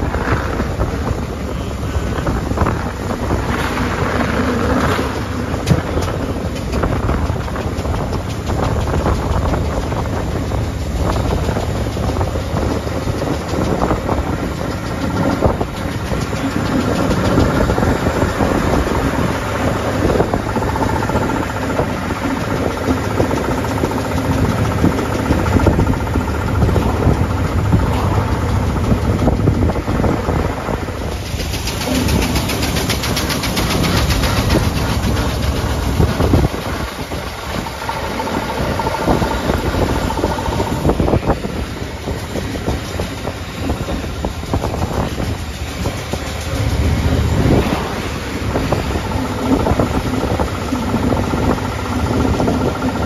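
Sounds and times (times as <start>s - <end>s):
old car engine running: 0.0s - 53.0s
road noise: 0.0s - 53.0s.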